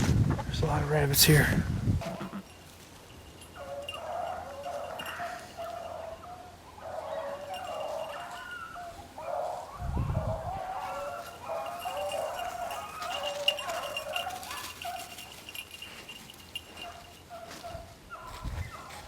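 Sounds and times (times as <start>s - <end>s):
dogs baying: 3.3s - 19.0s.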